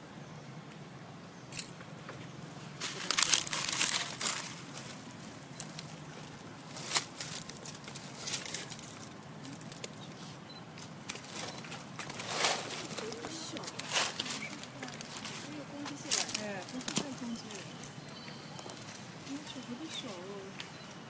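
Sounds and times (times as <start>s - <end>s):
dry leaves rustling and crackling: 2.6s - 20.5s.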